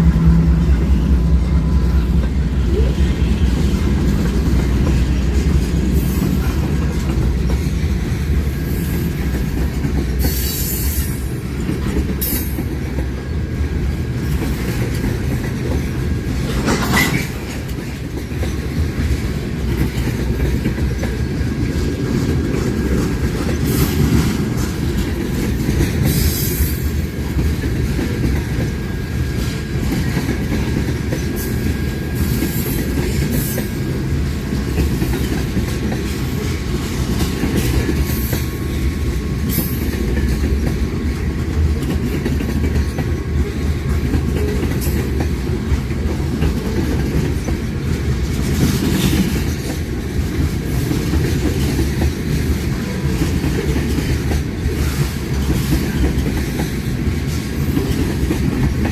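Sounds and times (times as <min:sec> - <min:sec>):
railcars rumbling and clacking: 0:00.0 - 0:58.9.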